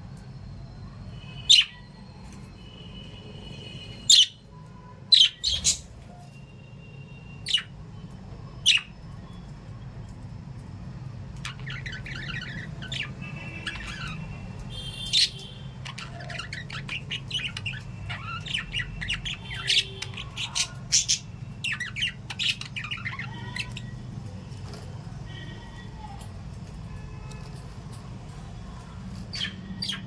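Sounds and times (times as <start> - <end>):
birds chirping and squawking: 1.0 - 6.4, 7.1 - 30.0.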